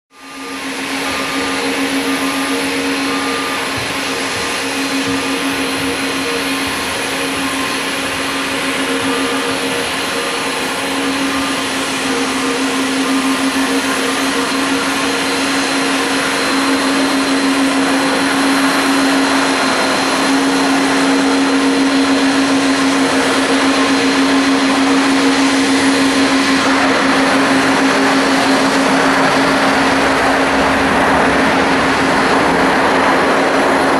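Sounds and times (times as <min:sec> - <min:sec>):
jet engines rushing and whining: 0:00.1 - 0:33.9.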